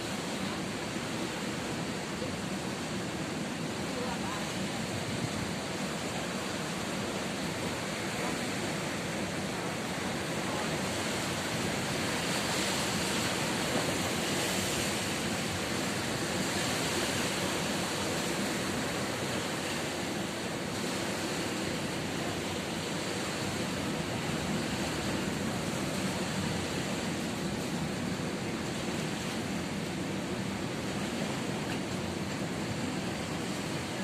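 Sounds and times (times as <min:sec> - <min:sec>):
ocean surf breaking on shore: 0:00.0 - 0:34.0.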